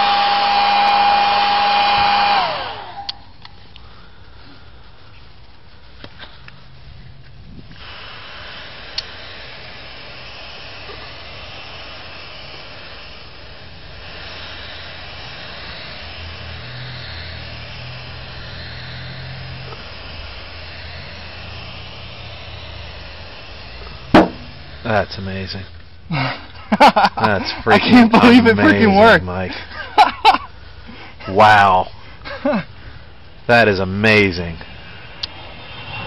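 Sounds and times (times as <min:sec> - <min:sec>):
electric blower motor whirring: 0:00.0 - 0:04.3, 0:07.4 - 0:26.0, 0:27.9 - 0:29.2, 0:31.2 - 0:36.0.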